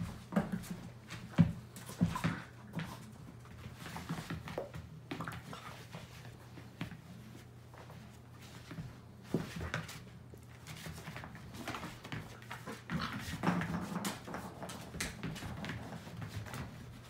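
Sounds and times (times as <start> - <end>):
dogs scuffling and thumping: 0.0 - 17.0.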